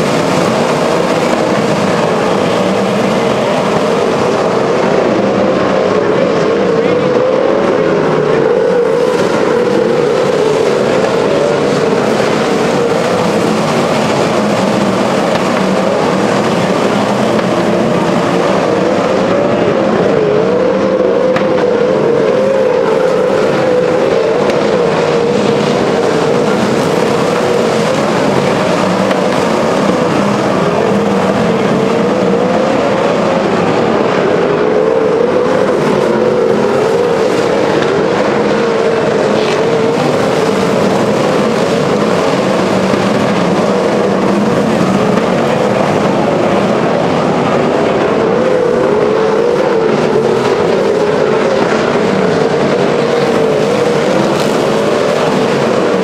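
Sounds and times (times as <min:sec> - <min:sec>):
sprint car engines running: 0:00.0 - 0:56.0.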